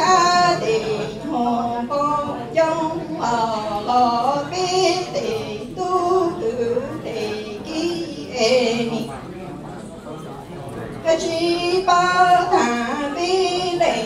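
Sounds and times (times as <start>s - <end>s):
woman singing unaccompanied: 0.0s - 9.1s, 11.0s - 14.0s.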